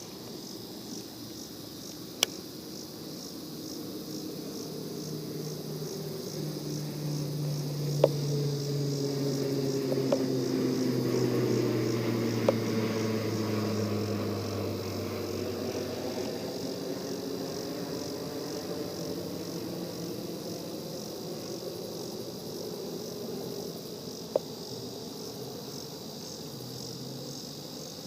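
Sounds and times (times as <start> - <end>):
distant engine droning: 0.0 - 28.0
insects chirping: 0.0 - 28.0.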